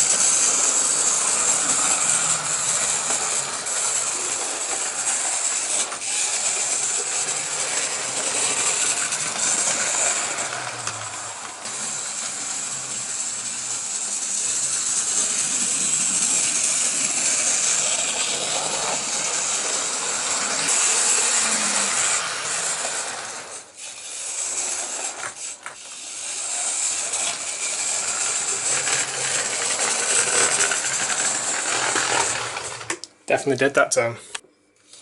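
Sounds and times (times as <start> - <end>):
model train motor whirring: 0.0 - 33.0.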